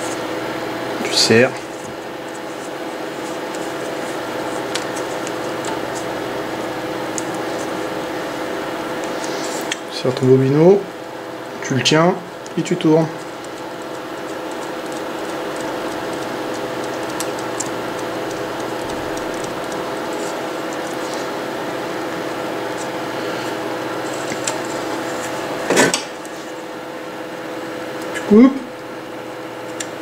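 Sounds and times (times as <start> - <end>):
thread spool whirring: 0.0 - 11.7, 12.3 - 30.0.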